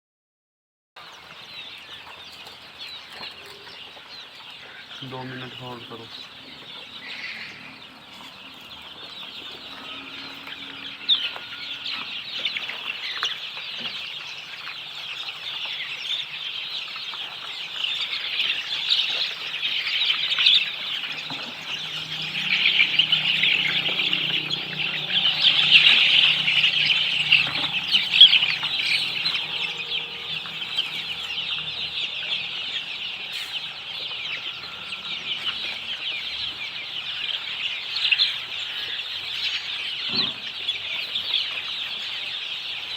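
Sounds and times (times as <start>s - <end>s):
chickens clucking and peeping: 1.0s - 42.9s.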